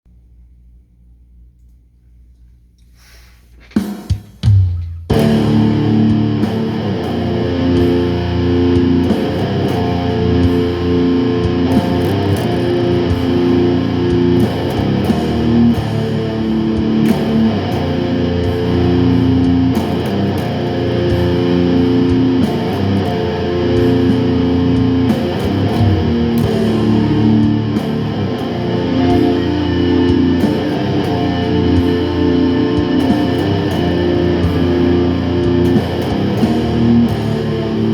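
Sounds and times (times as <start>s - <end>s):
guitar rock music: 5.1s - 37.9s.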